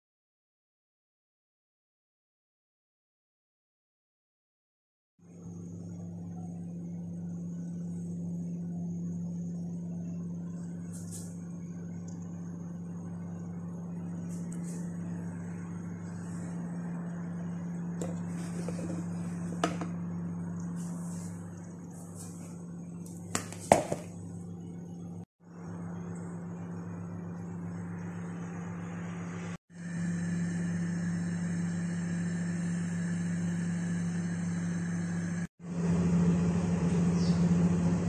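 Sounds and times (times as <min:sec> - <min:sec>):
steady low hum: 0:05.2 - 0:38.0.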